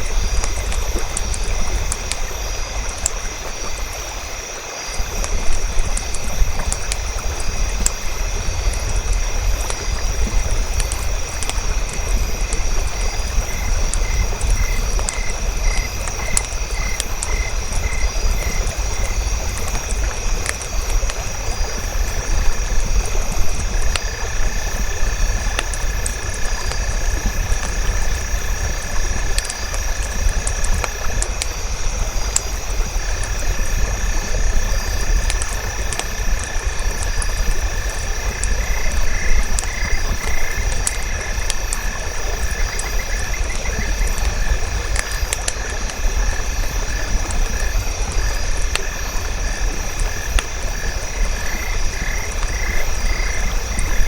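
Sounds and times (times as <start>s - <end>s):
campfire crackling: 0.0s - 54.0s
insects and frogs chorus: 0.0s - 54.0s.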